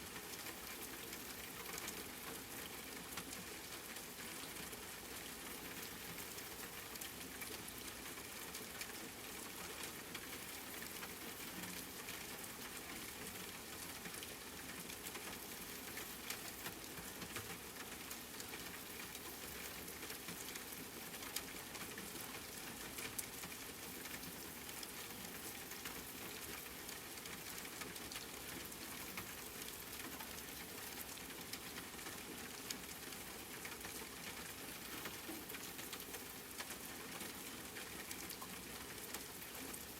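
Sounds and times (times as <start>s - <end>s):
rain hissing: 0.0s - 3.2s, 3.8s - 12.5s, 13.4s - 39.9s
raindrops ticking: 0.0s - 39.9s.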